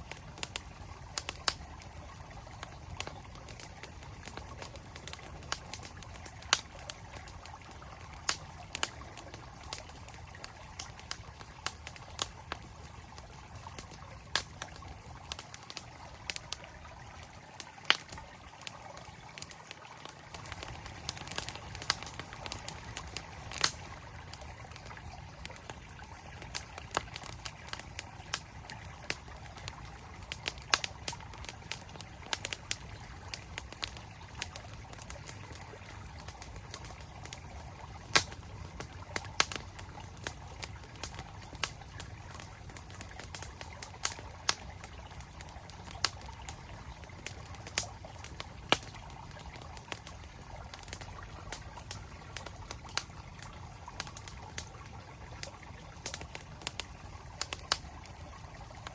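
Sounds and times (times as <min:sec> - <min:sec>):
campfire crackling and popping: 0:00.0 - 0:58.9
stream flowing: 0:00.0 - 0:58.9.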